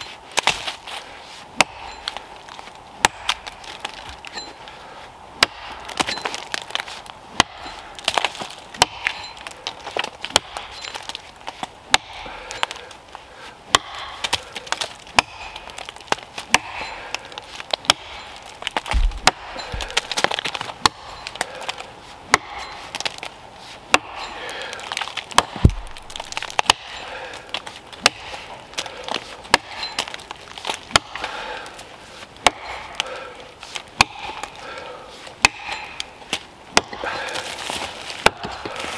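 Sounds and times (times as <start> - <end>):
axe chopping tree trunk: 0.0 - 0.8, 1.6 - 2.3, 3.0 - 4.4, 5.4 - 12.9, 13.7 - 23.3, 23.9 - 31.5, 32.4 - 34.8, 35.4 - 38.9.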